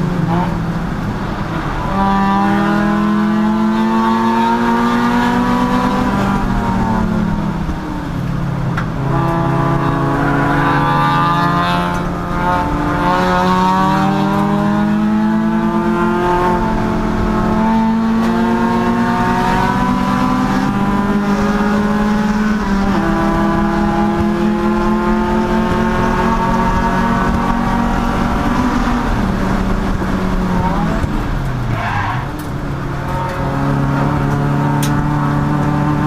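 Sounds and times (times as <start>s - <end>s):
race car engine accelerating: 0.0s - 36.0s.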